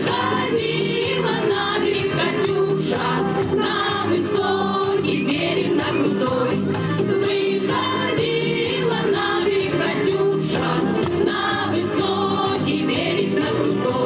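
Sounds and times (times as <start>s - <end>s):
choir singing with accompaniment: 0.0s - 14.0s.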